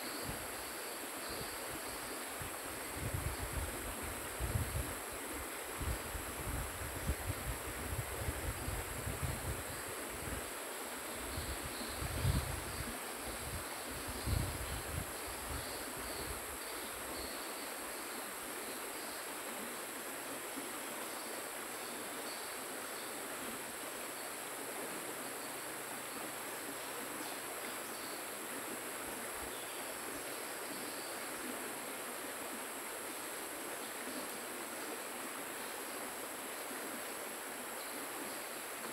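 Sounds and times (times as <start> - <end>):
insects droning: 0.0 - 38.9
river flowing: 0.0 - 38.9.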